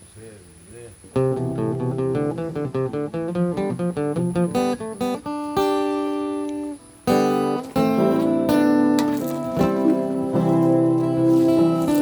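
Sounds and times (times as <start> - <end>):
acoustic guitar chords: 1.1 - 12.0.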